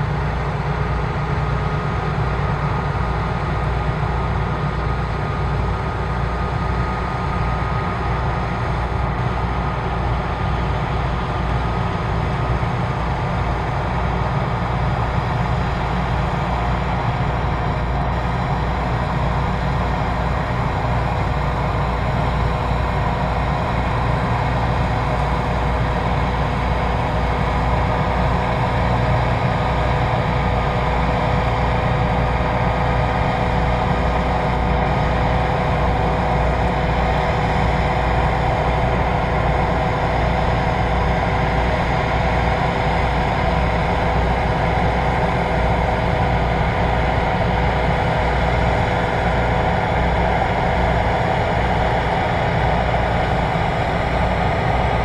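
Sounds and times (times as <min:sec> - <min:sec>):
combine harvester engine drone: 0:00.0 - 0:55.0
high whine of machine drives: 0:00.0 - 0:55.0.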